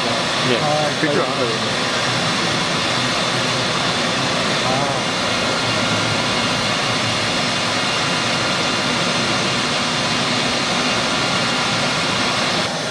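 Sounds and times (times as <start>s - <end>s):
lathe machining whir and hiss: 0.0s - 12.9s.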